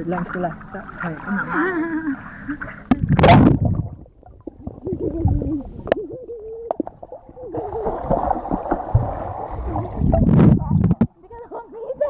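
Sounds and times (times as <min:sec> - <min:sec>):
underwater gurgling: 0:00.0 - 0:12.0.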